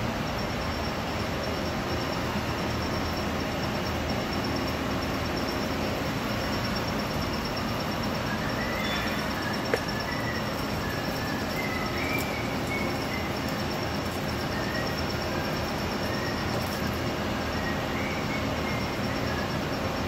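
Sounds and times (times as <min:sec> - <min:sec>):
steady machine noise: 0:00.0 - 0:20.0.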